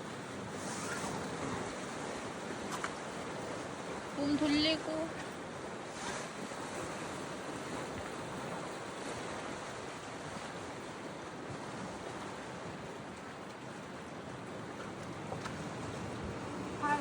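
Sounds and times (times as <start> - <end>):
sea surf breaking on shore: 0.0 - 17.0
wind: 0.0 - 17.0.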